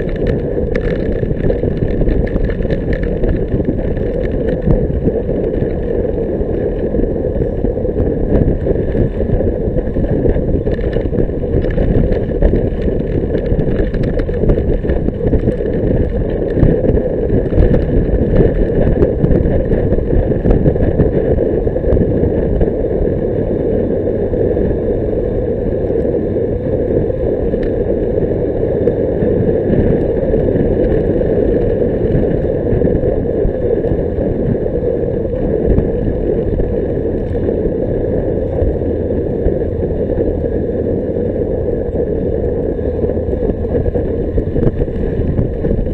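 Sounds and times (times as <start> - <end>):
bicycle road noise: 0.0 - 45.9
wind buffeting: 0.0 - 45.9.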